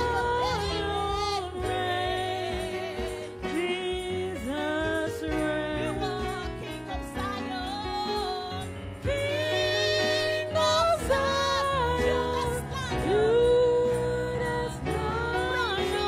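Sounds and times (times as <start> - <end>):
instrumental backing: 0.0 - 16.0
woman singing into a microphone: 0.0 - 16.0.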